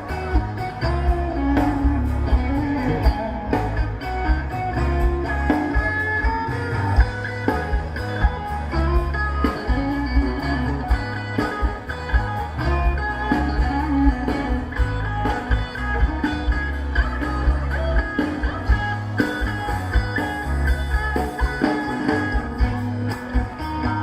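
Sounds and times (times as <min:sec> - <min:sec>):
rock song with electric guitar: 0:00.0 - 0:24.0.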